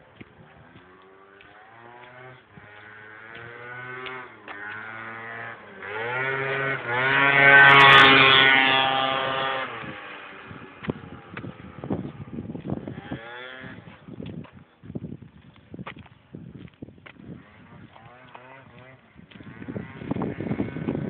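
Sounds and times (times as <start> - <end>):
scooter engine at high revs: 0.1 - 21.0.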